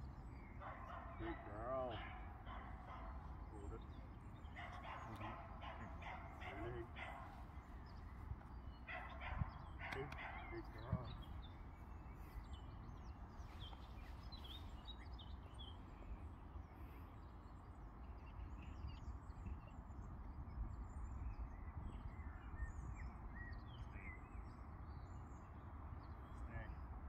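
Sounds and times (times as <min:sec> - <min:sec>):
birds chirping and singing: 0:00.0 - 0:27.0.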